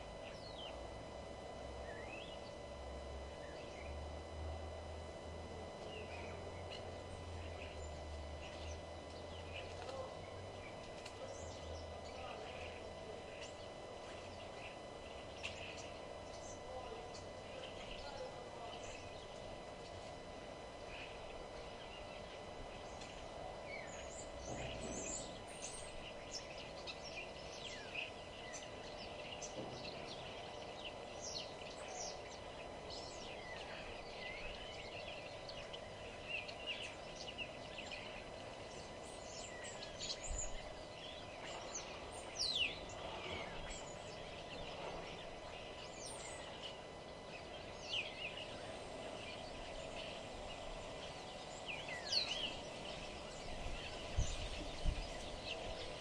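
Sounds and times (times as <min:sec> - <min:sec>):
low background hum: 0:00.0 - 0:56.0
songbirds chirping and singing: 0:00.0 - 0:56.0.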